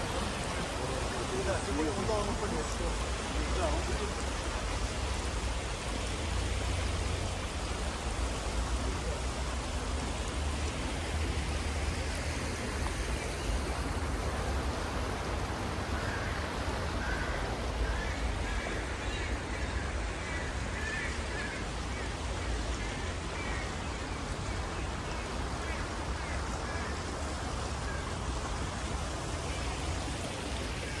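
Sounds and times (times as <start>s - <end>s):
river water rushing over stones: 0.0s - 31.0s.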